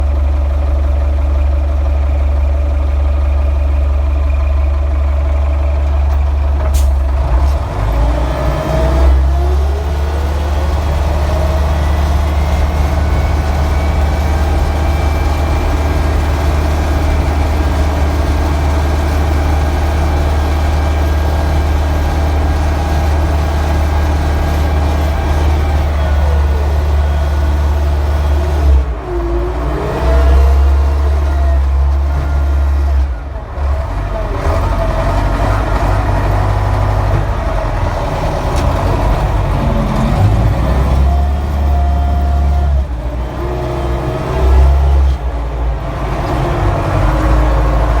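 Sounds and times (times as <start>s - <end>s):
wheel loader diesel engine: 0.0s - 48.0s.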